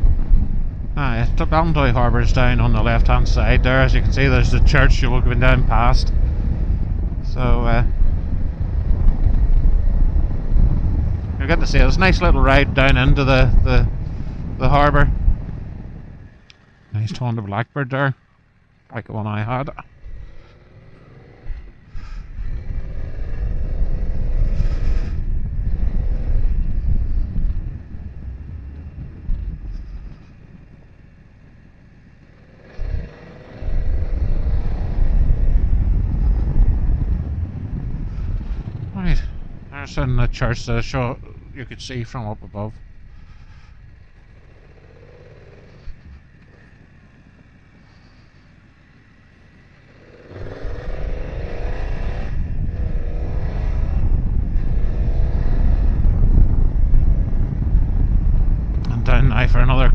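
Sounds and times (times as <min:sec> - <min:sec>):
motorcycle engine: 0:00.0 - 0:59.9
wind buffeting: 0:00.0 - 0:59.9.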